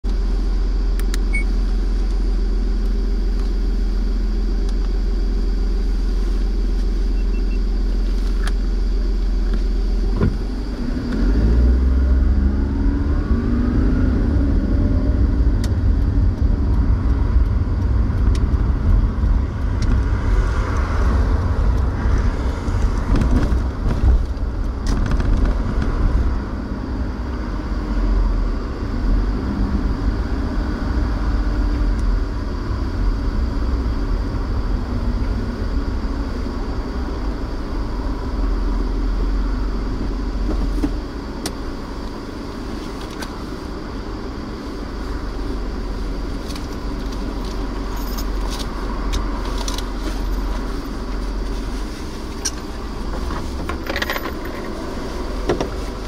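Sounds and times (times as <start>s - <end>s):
car engine idling: 0.0s - 56.0s
rising whine: 0.0s - 56.0s
uneven engine rumble: 0.0s - 56.0s.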